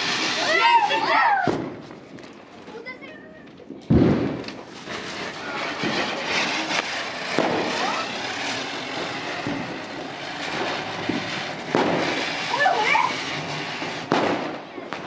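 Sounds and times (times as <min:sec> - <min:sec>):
firework hissing and crackling: 0:00.0 - 0:15.0.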